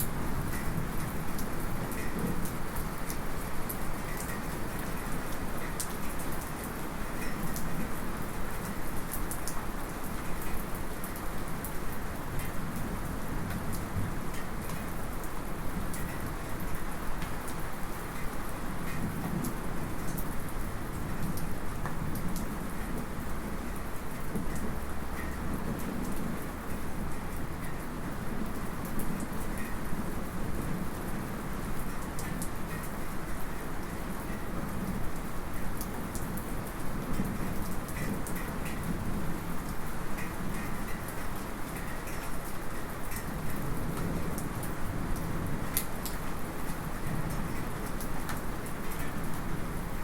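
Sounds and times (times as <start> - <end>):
light rain falling: 0.0 - 50.0.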